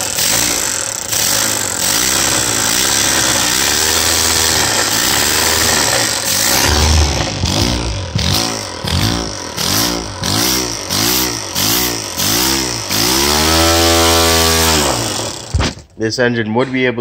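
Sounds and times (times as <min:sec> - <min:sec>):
compressed-air engine revving: 0:00.0 - 0:15.9.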